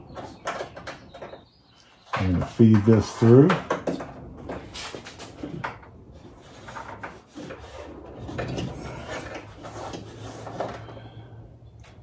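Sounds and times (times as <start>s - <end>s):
wires scraping against plastic opening: 2.1s - 12.0s.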